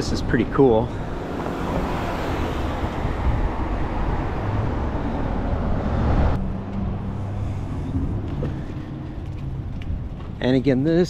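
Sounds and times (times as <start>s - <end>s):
car going by: 0.0s - 10.4s.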